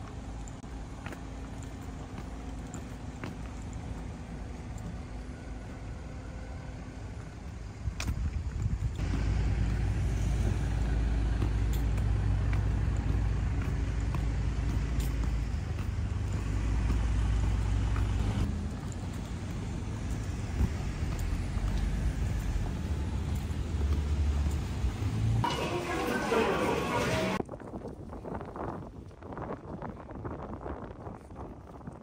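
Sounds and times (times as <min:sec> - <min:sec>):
vehicle rumble: 0:00.0 - 0:28.7.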